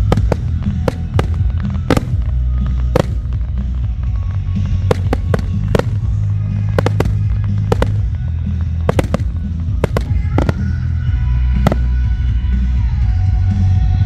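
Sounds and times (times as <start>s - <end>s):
fireworks bursting: 0.0s - 12.1s.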